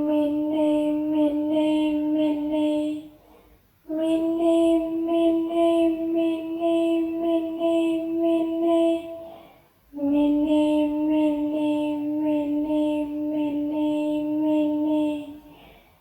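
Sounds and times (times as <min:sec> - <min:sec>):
high-pitched voice chanting: 0:00.0 - 0:03.2, 0:03.9 - 0:15.6.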